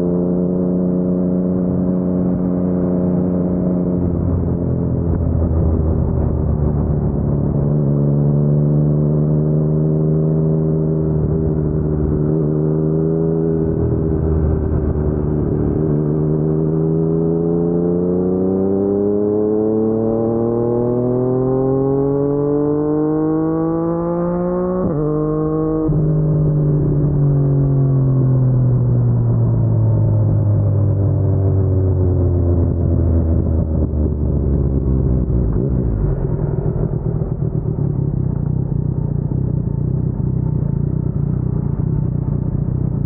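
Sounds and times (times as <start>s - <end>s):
motorcycle engine revving: 0.0s - 29.5s, 30.2s - 43.0s.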